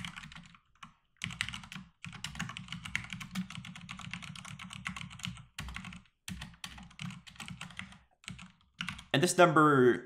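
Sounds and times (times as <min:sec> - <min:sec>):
fast typing on keyboard: 0:00.0 - 0:09.1.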